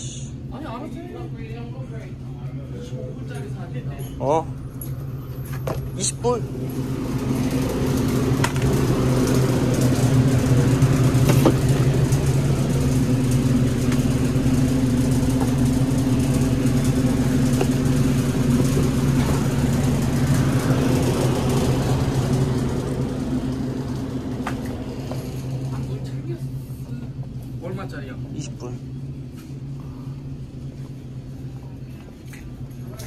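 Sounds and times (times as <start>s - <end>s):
refrigeration unit humming: 0.0s - 33.0s.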